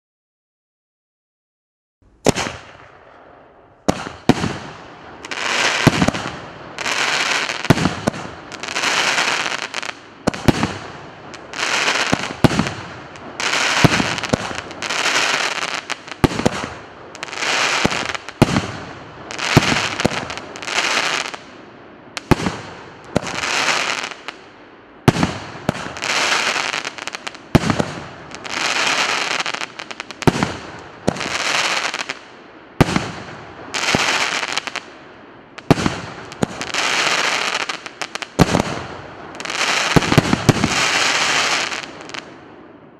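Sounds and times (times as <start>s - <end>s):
firework shots cracking: 2.2s - 21.5s, 22.2s - 24.4s, 25.0s - 32.2s, 32.8s - 34.9s, 35.6s - 42.4s
crackling hiss of burning stars: 2.2s - 42.7s.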